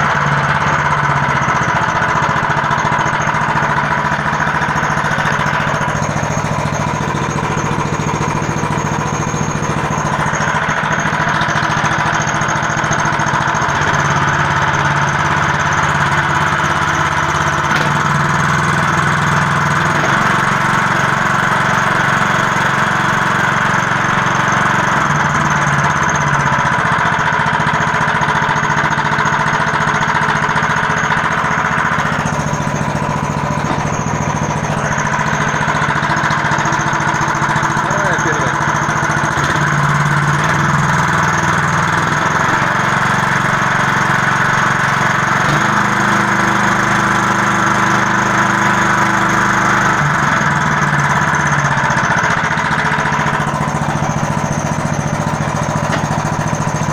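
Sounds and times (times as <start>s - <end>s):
small engine running: 0.0s - 56.9s.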